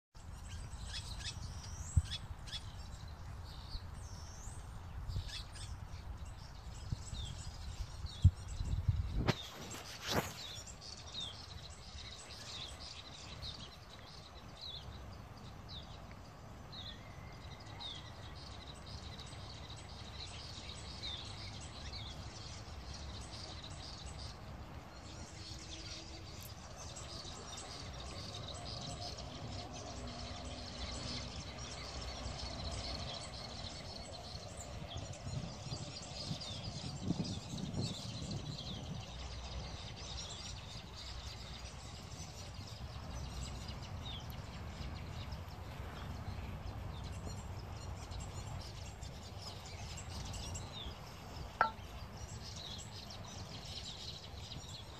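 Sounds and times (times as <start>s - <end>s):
birds chirping: 0.2s - 54.9s.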